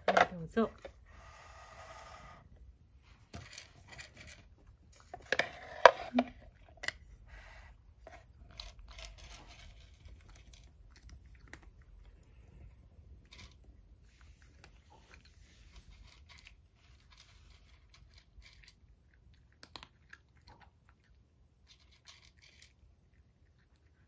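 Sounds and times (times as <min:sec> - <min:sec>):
cat crunching dry kibble: 0:03.4 - 0:24.0.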